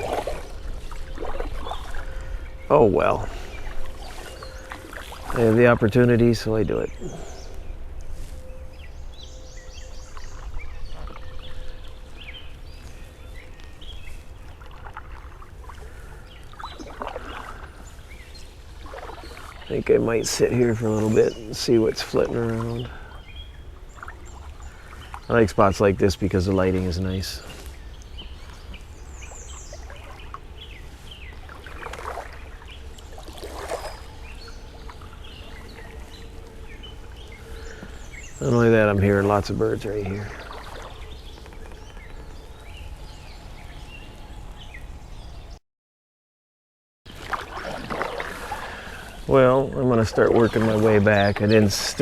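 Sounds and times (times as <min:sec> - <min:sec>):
paddle splashing in water: 0:00.0 - 0:05.9, 0:09.9 - 0:25.4, 0:27.4 - 0:43.2, 0:47.1 - 0:52.0
small birds chirping: 0:00.0 - 0:45.6, 0:47.2 - 0:52.0.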